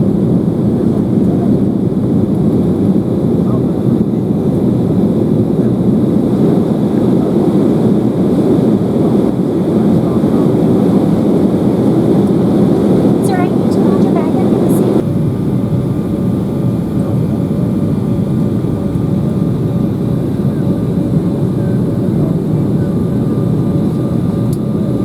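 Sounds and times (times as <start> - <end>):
jet engine rumble in cabin: 0.0 - 25.0.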